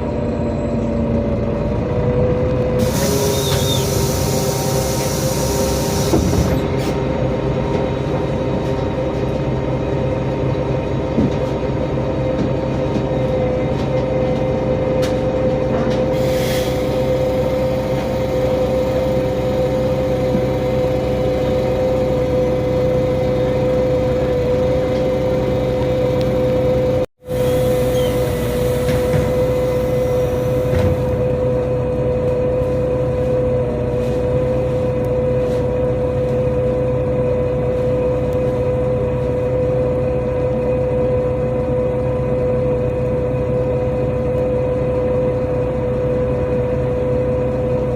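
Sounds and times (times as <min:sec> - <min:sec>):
bus engine droning: 0:00.0 - 0:47.9.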